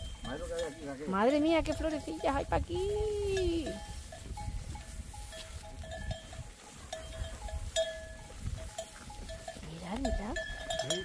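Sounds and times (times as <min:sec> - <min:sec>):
sheep bells clanking: 0:00.0 - 0:11.0.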